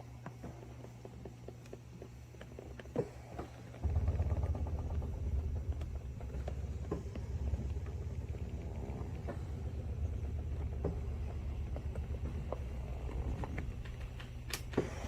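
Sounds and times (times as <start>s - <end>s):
massage machine motor humming: 0.0s - 15.0s.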